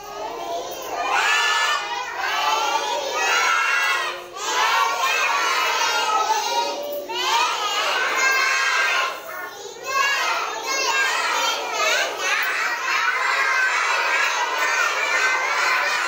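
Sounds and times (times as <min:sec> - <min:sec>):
children shouting a rhyme in unison: 0:00.0 - 0:16.0.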